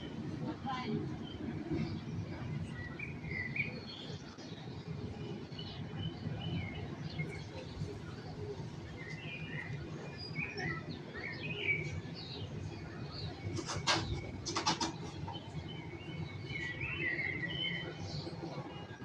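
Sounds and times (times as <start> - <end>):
low city hum: 0.0 - 19.0
small birds chirping: 0.0 - 19.0.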